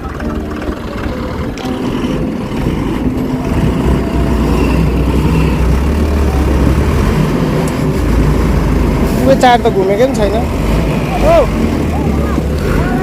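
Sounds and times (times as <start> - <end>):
heavy engines straining under load: 0.0 - 13.0.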